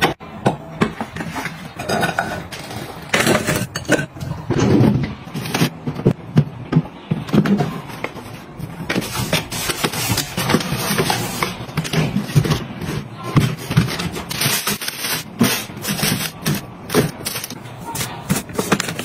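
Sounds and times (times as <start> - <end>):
plastic drawers knocking and scraping: 0.0 - 19.0.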